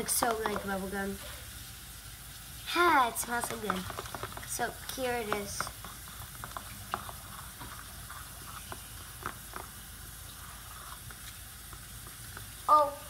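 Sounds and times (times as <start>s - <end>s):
wet squishing of foamy mix: 0.0s - 13.0s.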